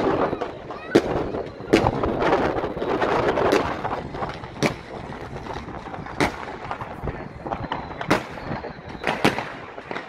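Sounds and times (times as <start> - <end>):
fireworks banging: 0.0 - 10.0
fireworks crackling: 0.0 - 10.0.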